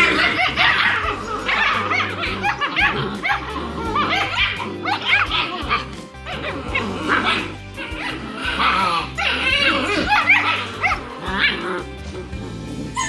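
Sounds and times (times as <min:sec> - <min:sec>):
background music: 0:00.0 - 0:13.0
puppies yelping: 0:00.0 - 0:13.0.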